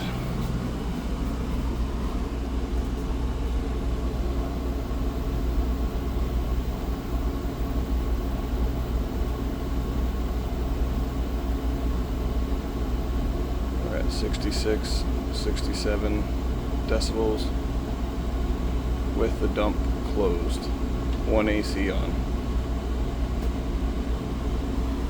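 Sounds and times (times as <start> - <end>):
air conditioner blower humming: 0.0 - 25.0.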